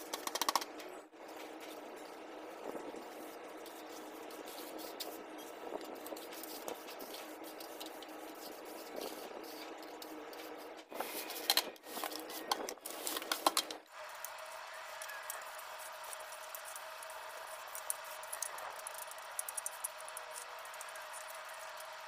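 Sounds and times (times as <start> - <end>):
steady low hum: 0.7 - 22.0.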